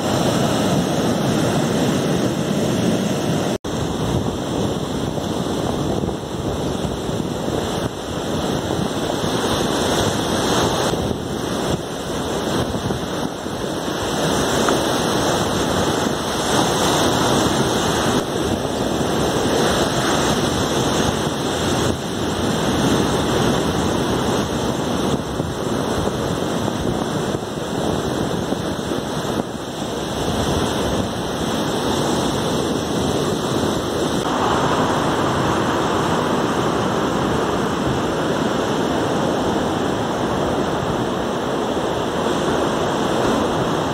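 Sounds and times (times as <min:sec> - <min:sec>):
waves breaking on beach: 0:00.0 - 0:43.9
wind rumbling on microphone: 0:00.0 - 0:43.9.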